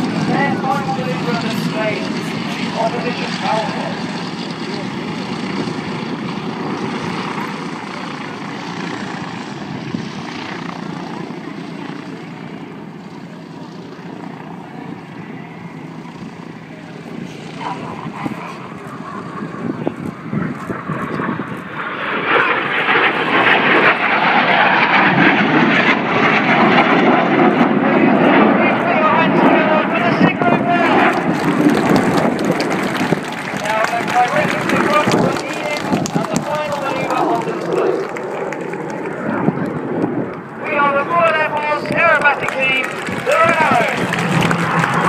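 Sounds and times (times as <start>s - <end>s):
jet aircraft flying overhead: 0.0s - 45.0s.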